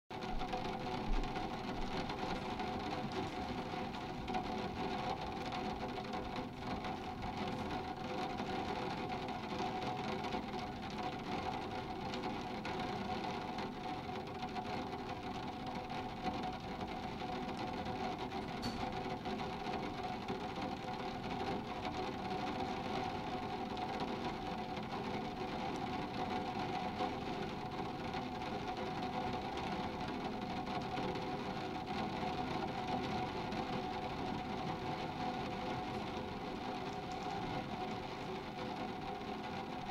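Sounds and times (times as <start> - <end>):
rain pattering on skylight glass: 0.1 - 39.9.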